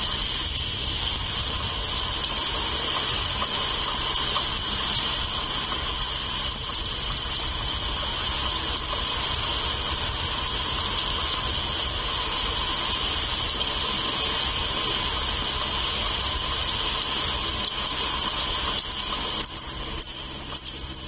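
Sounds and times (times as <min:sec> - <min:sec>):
high-pitched insect chorus: 0:00.0 - 0:21.0
wind rumble on microphone: 0:00.0 - 0:21.0.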